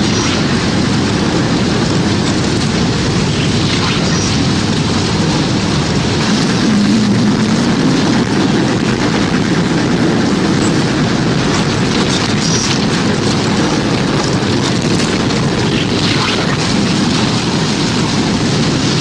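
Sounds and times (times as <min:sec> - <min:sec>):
tornado wind roaring: 0:00.0 - 0:19.0.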